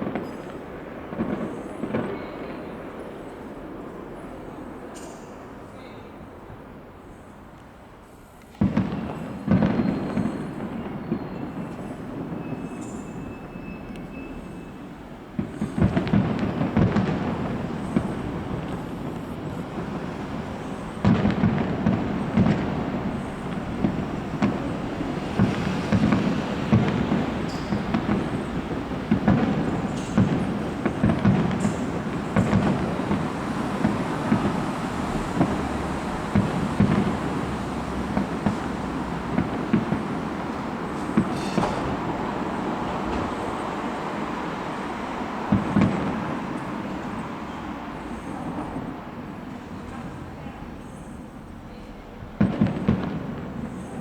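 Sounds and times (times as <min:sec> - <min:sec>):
fireworks bangs and booms: 0:00.0 - 0:54.0
fireworks crackle: 0:00.0 - 0:54.0.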